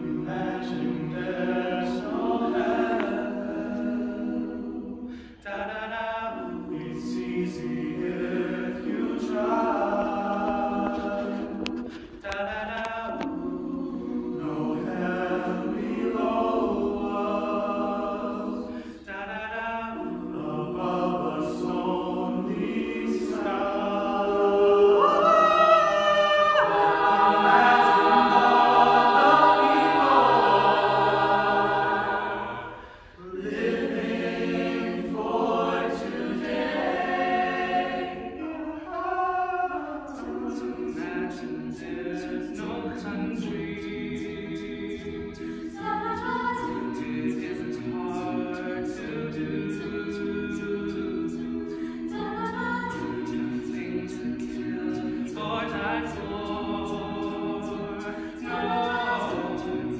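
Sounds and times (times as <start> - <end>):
a cappella choir singing: 0.0 - 59.9.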